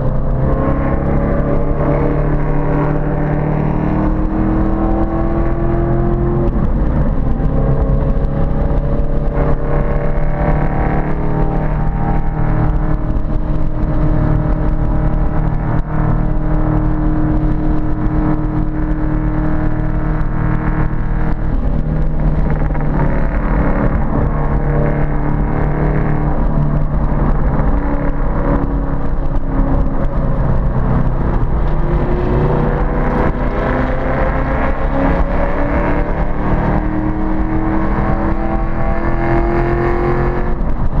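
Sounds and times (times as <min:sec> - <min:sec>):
car engine running hard: 0:00.0 - 0:41.0.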